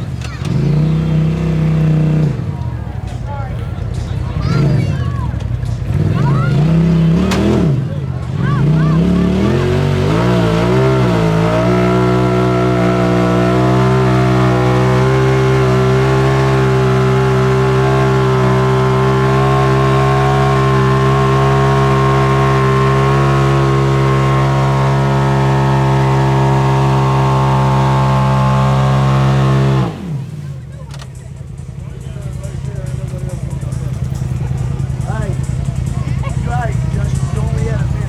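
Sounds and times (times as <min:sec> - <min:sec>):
engine at high revs: 0:00.0 - 0:38.0.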